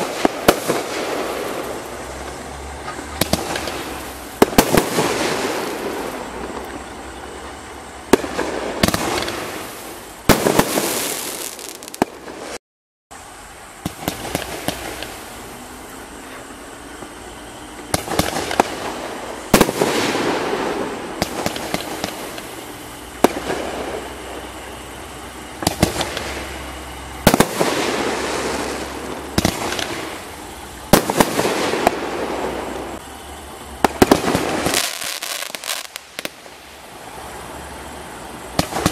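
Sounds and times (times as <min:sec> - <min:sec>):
fireworks reports: 0:00.0 - 0:12.6, 0:13.8 - 0:38.9.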